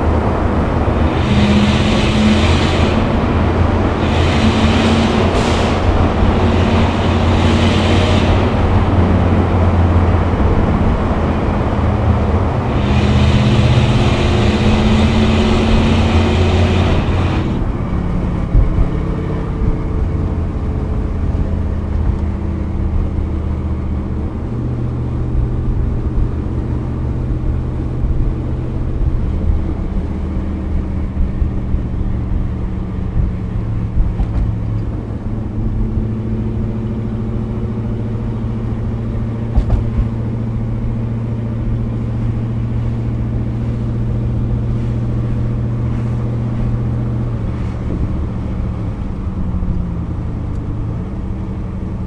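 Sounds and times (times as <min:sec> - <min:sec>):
car engine drone from inside: 0:00.0 - 0:52.0.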